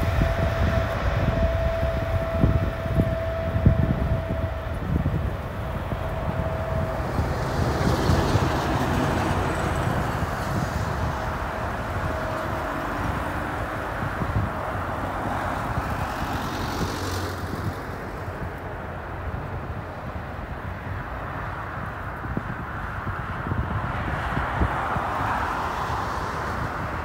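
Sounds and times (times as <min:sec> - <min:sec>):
jet engines at takeoff thrust: 0:00.0 - 0:27.0.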